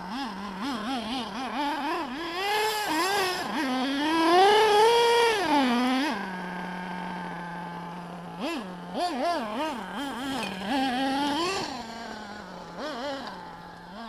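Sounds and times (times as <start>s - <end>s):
small nitro engine revving: 0.0s - 14.0s.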